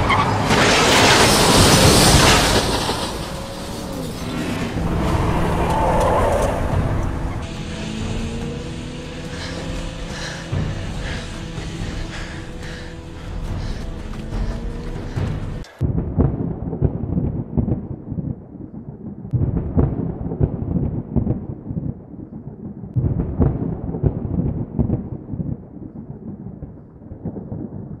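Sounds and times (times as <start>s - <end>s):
low muffled rumbling: 1.6s - 28.0s.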